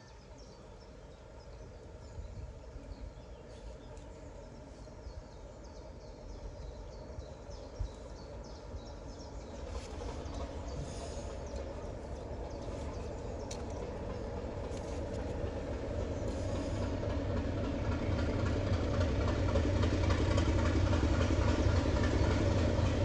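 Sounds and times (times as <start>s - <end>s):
train approaching: 0.0s - 23.0s
birds chirping: 0.2s - 22.8s.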